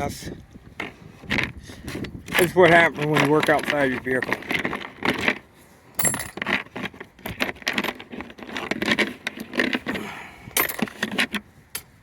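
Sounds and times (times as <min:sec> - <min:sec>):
metal tools clinking: 0:02.0 - 0:12.0.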